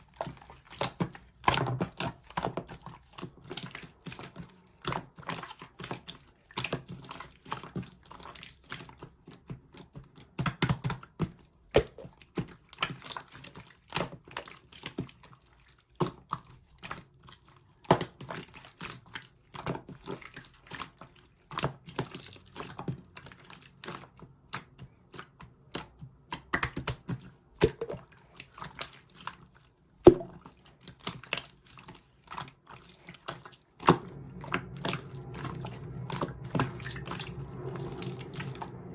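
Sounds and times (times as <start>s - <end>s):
slime squishing with wet pops: 0.0s - 38.9s.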